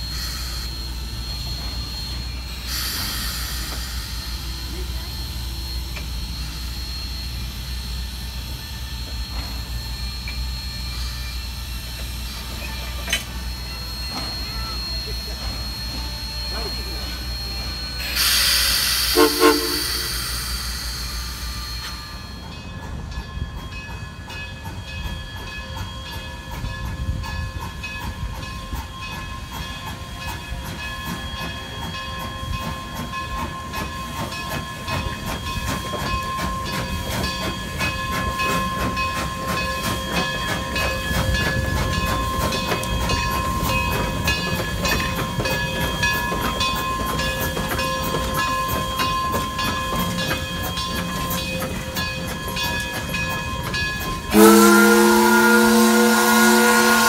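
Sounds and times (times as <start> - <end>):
loud steam hiss: 0.0 - 57.0
steam locomotive clanking beats: 0.0 - 57.0.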